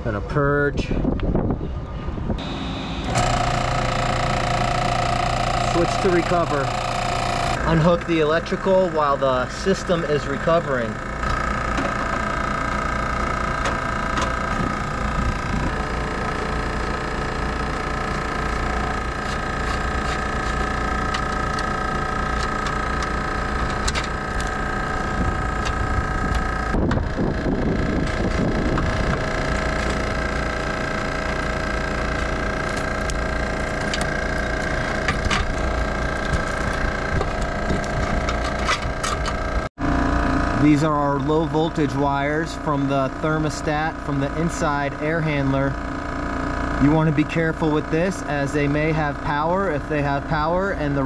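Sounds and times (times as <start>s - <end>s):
machine motor humming: 2.3s - 51.0s.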